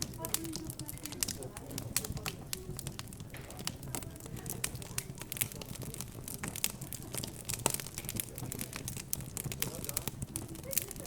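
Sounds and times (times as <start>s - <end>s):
low steady murmur: 0.0s - 11.0s
wood fire crackling: 0.0s - 11.0s.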